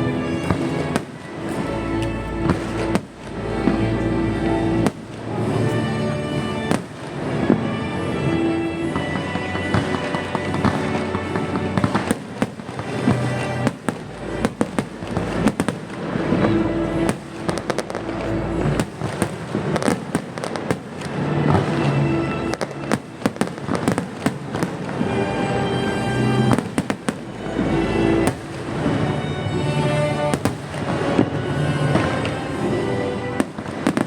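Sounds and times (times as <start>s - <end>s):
fireworks bursting and crackling: 0.0s - 34.0s
music with sustained tones: 0.0s - 34.0s.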